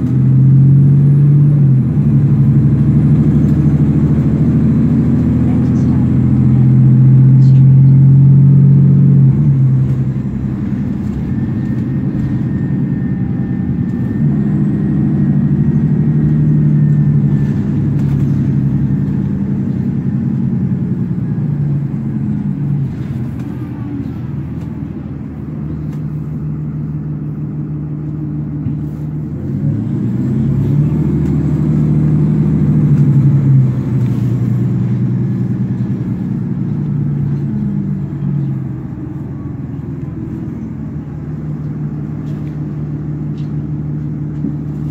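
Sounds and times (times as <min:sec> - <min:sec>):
bus diesel engine: 0:00.0 - 0:44.9.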